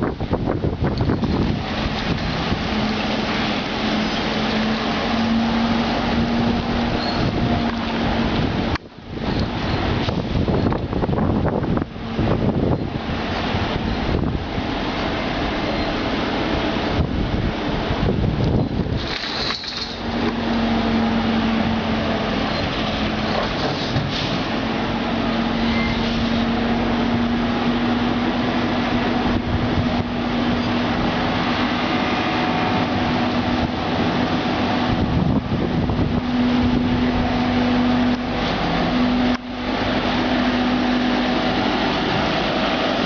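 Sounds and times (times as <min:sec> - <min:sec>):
road and running noise: 0:00.0 - 0:43.0.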